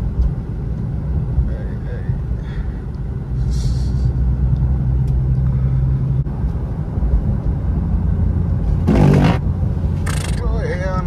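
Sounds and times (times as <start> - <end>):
car cabin engine and tyre drone: 0.0 - 11.0.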